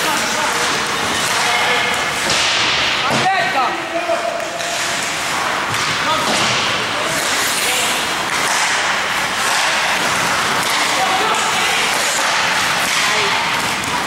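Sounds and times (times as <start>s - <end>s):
noisy arena din: 0.0s - 14.0s
skates and sticks on ice: 0.0s - 14.0s.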